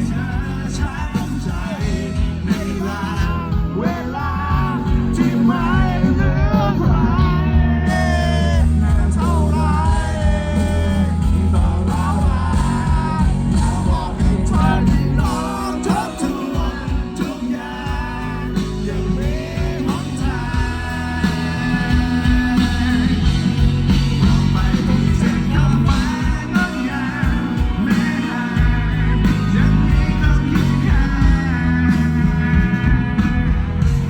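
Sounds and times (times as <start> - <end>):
person singing: 0.0 - 34.0
rock band playing: 0.0 - 34.0.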